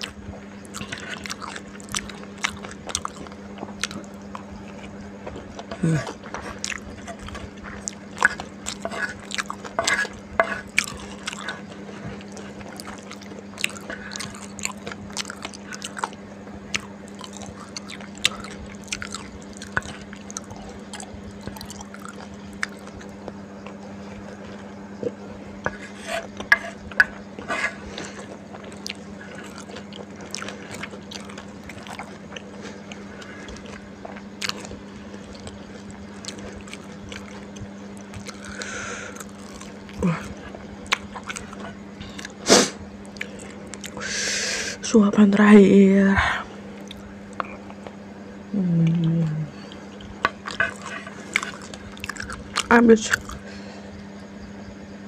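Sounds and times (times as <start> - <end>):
person chewing noodles: 0.0 - 44.0, 46.8 - 48.0, 48.6 - 53.7
steady low hum: 0.0 - 55.0.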